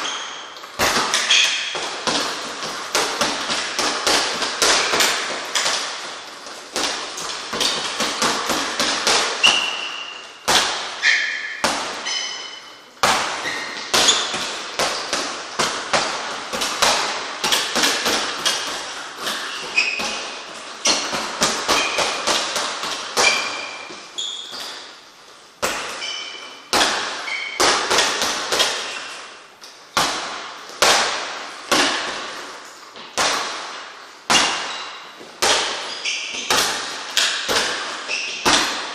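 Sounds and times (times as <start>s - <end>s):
gloves punching speed bag: 0.7s - 12.0s, 13.0s - 24.8s, 26.7s - 29.1s, 30.0s - 38.9s.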